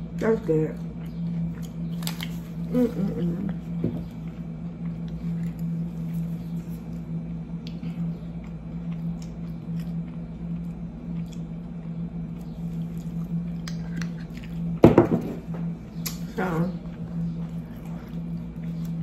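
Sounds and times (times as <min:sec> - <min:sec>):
steady low hum: 0:00.0 - 0:19.0
person chewing food: 0:00.8 - 0:14.8, 0:15.8 - 0:19.0.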